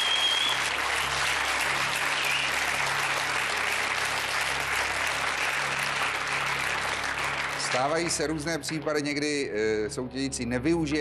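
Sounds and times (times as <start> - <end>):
studio audience applauding: 0.0 - 9.5.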